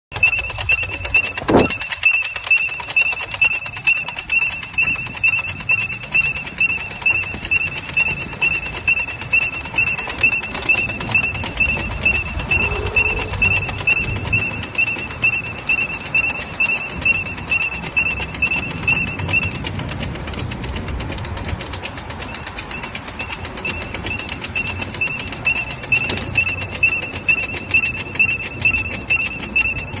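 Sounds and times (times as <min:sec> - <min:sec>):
high-pitched alarm beeping: 0:00.1 - 0:20.5, 0:21.6 - 0:30.0.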